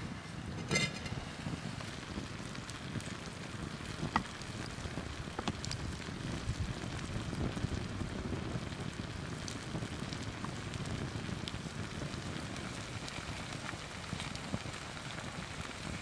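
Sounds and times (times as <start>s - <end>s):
cream bubbling and sizzling: 0.0s - 16.0s
wood fire crackling: 0.0s - 16.0s.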